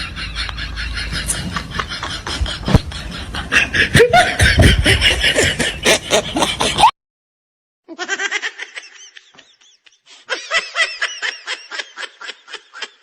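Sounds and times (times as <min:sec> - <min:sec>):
person laughing: 0:00.0 - 0:06.9, 0:07.9 - 0:13.0.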